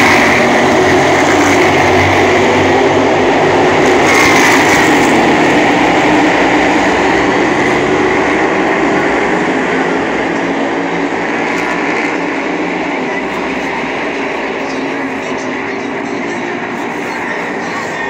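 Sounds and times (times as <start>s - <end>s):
race car engines at full throttle: 0.0s - 18.0s.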